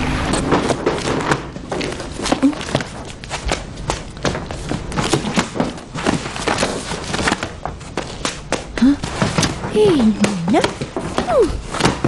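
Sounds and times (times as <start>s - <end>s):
books handled on wooden shelf: 0.5s - 12.0s.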